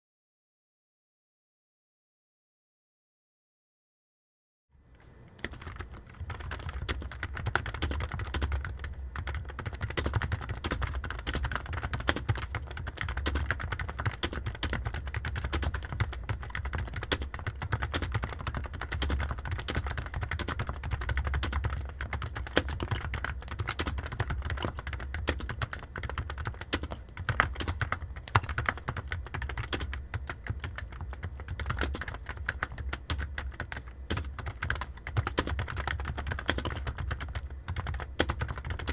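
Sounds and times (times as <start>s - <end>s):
steady low hum: 4.8s - 38.9s
typing on computer keyboard: 5.4s - 38.9s.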